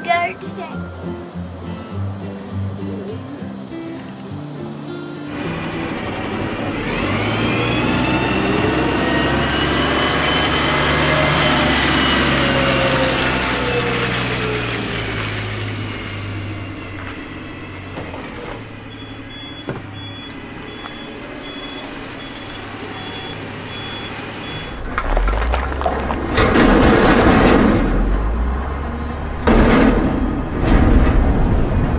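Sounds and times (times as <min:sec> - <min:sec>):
garbage truck engine and hydraulics: 0:00.0 - 0:31.9.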